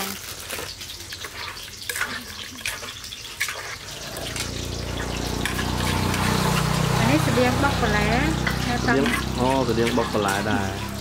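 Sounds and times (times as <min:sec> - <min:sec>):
wet salad squelching in mortar: 0:00.0 - 0:11.0.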